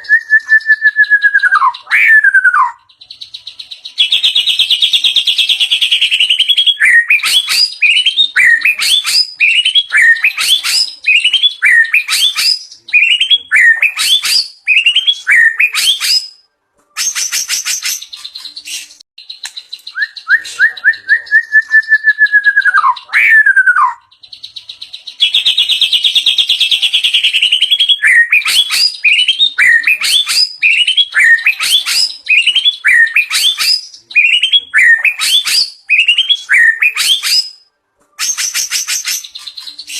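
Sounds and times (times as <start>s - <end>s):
bird singing loudly: 0.0s - 16.4s, 17.0s - 37.6s.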